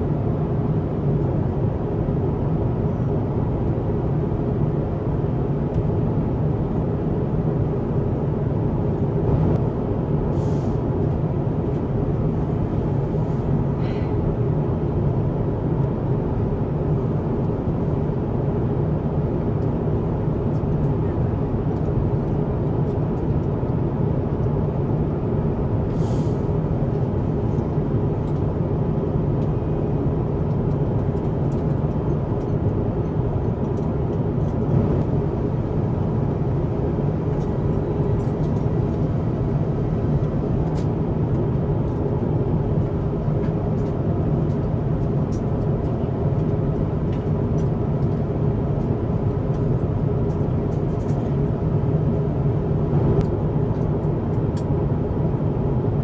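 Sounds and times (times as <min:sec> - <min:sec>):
airplane cabin roar in flight: 0:00.0 - 0:56.0.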